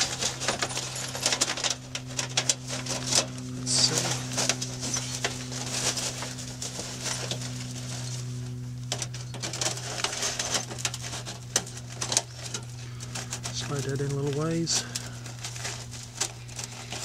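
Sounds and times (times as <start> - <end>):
sheet metal pipe crinkling and rattling: 0.0 - 17.0
steady low hum: 0.0 - 17.0.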